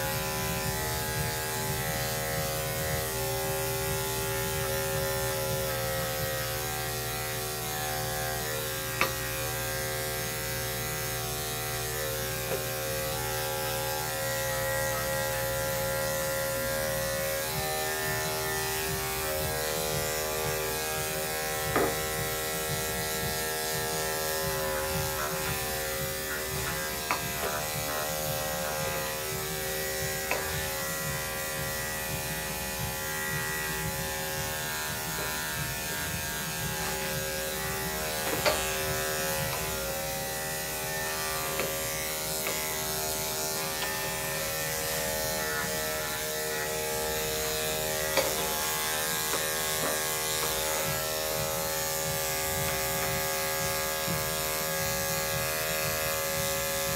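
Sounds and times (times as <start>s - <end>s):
electric clippers buzzing: 0.0s - 56.9s.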